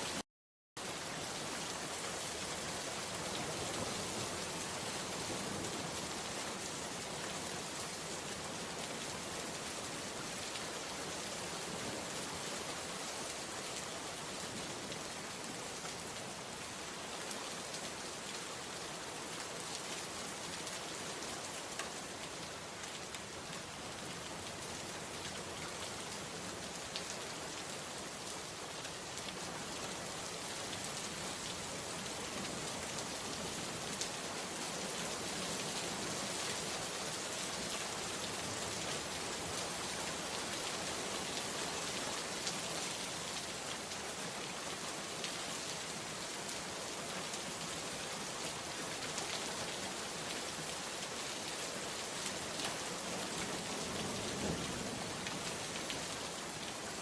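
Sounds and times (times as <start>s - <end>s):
rain falling: 0.8s - 57.0s.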